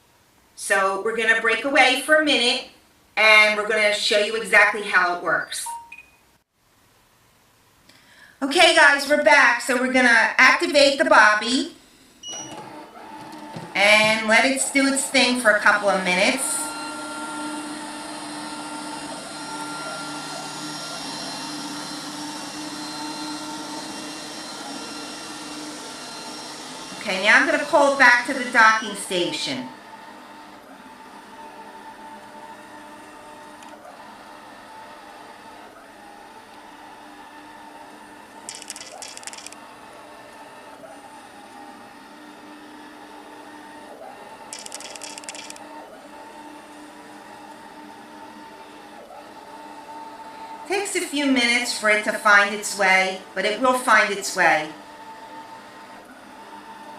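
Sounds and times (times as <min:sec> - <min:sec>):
robotic vacuum cleaner whirring: 0:08.9 - 0:56.9.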